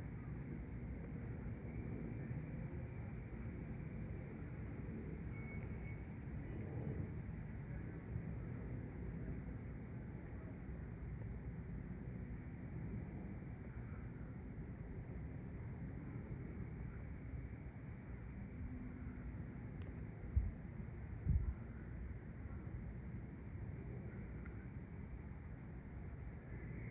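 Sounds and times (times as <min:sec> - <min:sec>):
crickets chirping: 0:00.0 - 0:26.9
low continuous rumble: 0:00.0 - 0:26.9.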